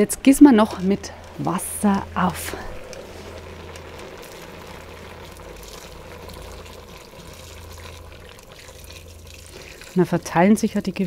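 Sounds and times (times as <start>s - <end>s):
water pouring into a pot: 0.6s - 11.0s.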